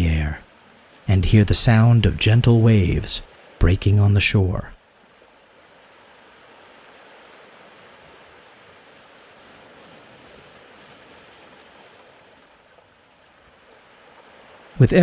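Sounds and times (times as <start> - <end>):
faint ocean surf: 0.0 - 15.0.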